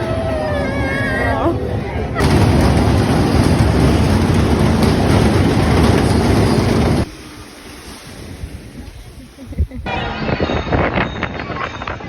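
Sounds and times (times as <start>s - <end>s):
ride rattling along track: 0.0s - 12.0s.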